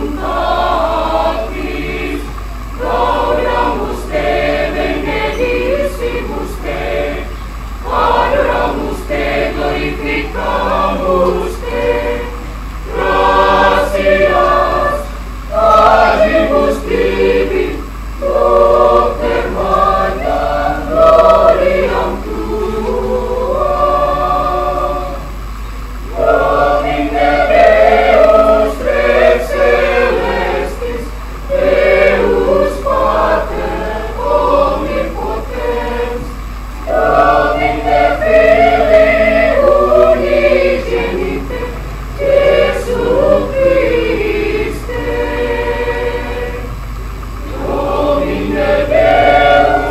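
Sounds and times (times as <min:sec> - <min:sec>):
mixed choir singing: 0:00.0 - 0:49.9.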